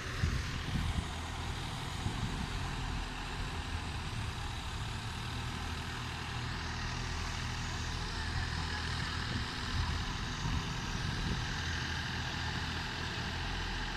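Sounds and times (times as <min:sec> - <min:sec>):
tractor diesel engines droning: 0:00.0 - 0:13.9.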